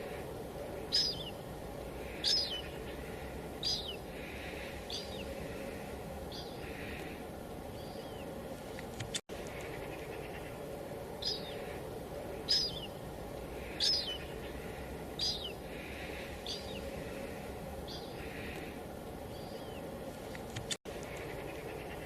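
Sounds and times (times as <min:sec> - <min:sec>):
light rain hissing: 0:00.0 - 0:22.0.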